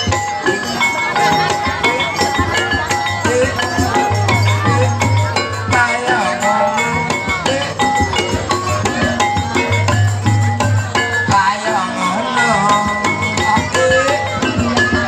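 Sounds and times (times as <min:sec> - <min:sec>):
drums and percussion: 0:00.0 - 0:15.0
traditional dance music: 0:00.0 - 0:15.0
wavering melodic line: 0:00.0 - 0:15.0.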